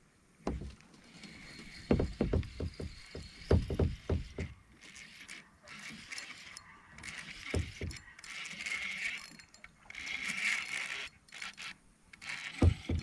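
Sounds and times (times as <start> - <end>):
fishing reel gears whirring: 1.0 - 13.0.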